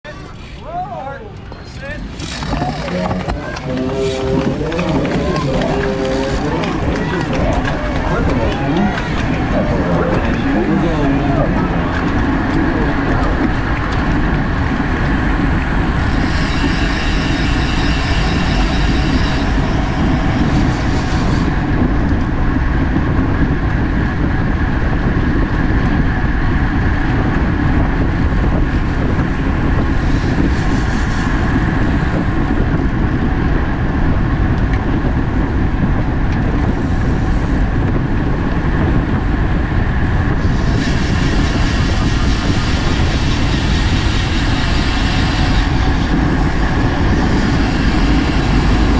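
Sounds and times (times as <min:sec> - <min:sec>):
bike road noise: 0:00.1 - 0:48.9
wind rush: 0:00.2 - 0:48.9.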